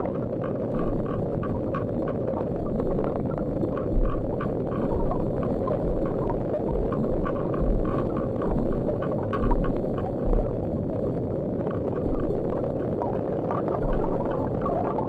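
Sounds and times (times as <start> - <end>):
low underwater rushing: 0.0 - 15.0
small irregular clicks: 0.0 - 15.0.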